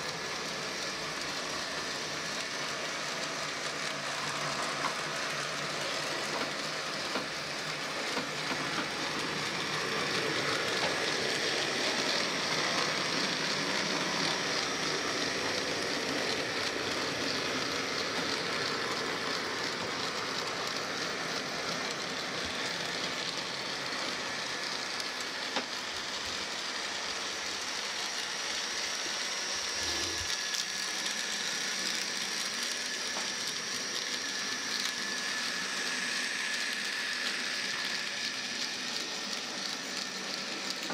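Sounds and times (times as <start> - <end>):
high motor whine: 0.0 - 40.9.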